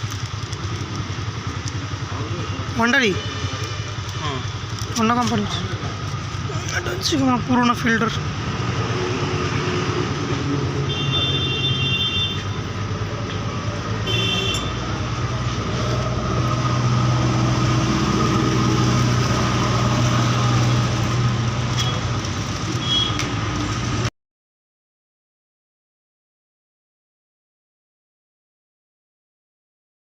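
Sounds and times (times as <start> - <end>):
vehicle engine humming: 0.0 - 24.1.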